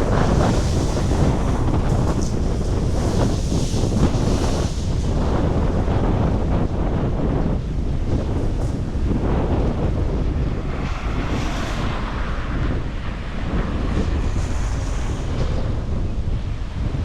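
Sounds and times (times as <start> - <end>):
storm wind buffeting microphone: 0.0 - 17.0.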